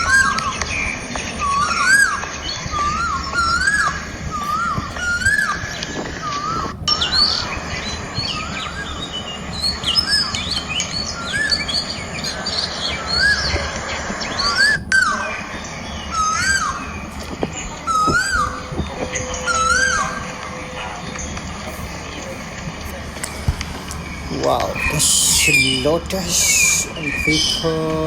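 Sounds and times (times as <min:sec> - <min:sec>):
bird whistling rising and falling: 0:00.0 - 0:22.4, 0:23.3 - 0:28.0
birds chirping quickly: 0:00.0 - 0:28.0
steady low background noise: 0:00.0 - 0:28.0.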